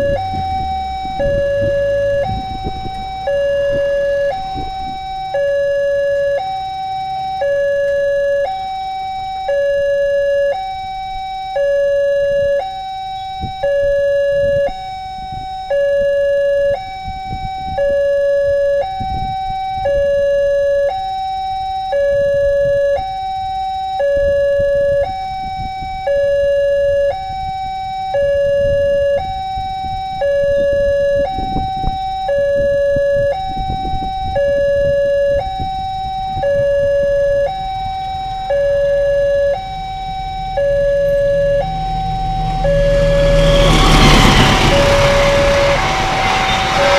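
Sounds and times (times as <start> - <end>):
level crossing two-tone alarm: 0.0 - 46.9.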